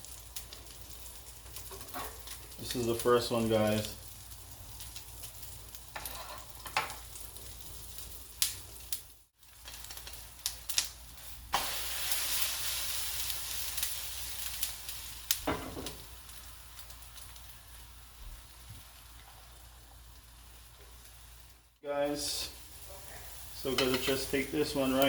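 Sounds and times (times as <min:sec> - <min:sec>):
pancakes sizzling in oil: 0:00.0 - 0:25.0.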